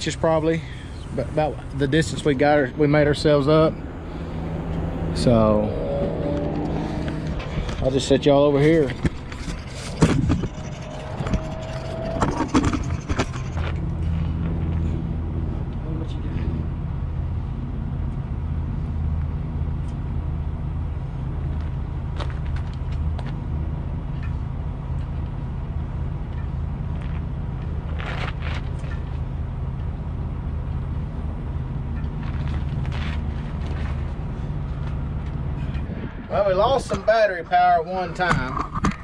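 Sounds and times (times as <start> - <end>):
diesel engine idling: 0.0 - 38.3.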